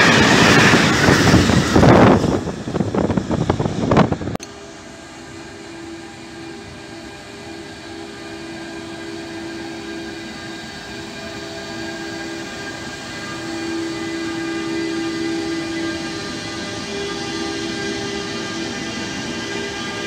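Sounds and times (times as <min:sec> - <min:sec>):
electric locomotive hum: 0:00.0 - 0:20.0
freight train wheels rumbling: 0:00.0 - 0:20.0.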